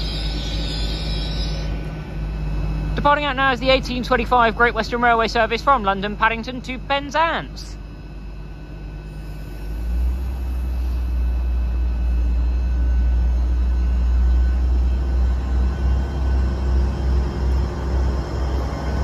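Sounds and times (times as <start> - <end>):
faint whine: 0.0 - 19.0
train diesel engine rumble: 0.0 - 19.0.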